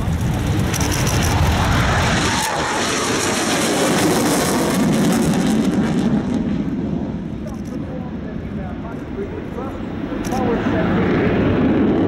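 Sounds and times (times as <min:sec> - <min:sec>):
jet engines at high power: 0:00.0 - 0:12.0.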